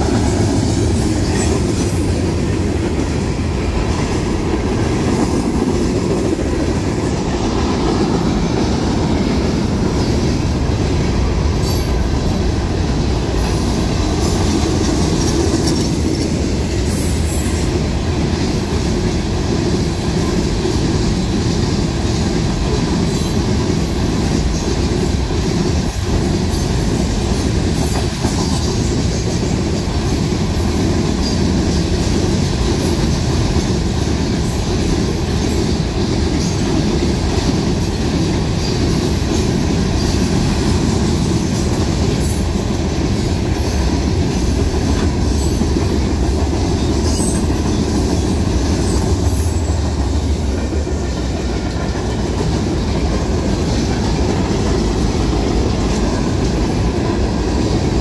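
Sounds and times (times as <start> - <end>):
steel wheels running on rails: 0.0 - 58.0.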